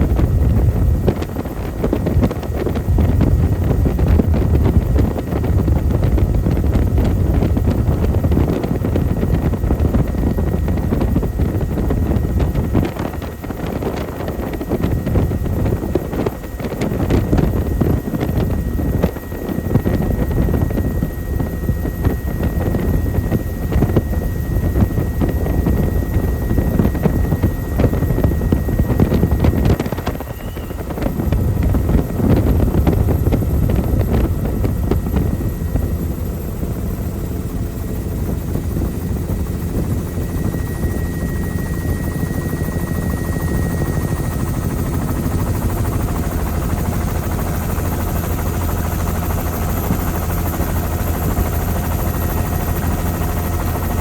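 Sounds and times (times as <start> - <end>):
helicopter in flight: 0.0 - 54.0.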